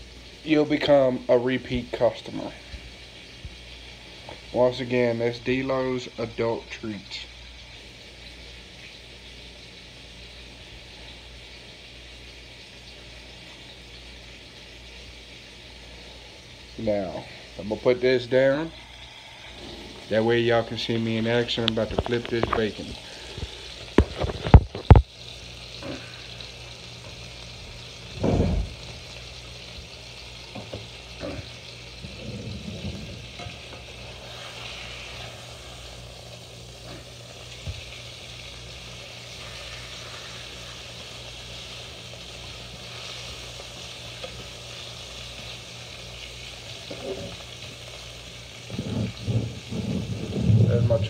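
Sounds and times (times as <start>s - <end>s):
bacon sizzling in frying pan: 0.0s - 51.0s.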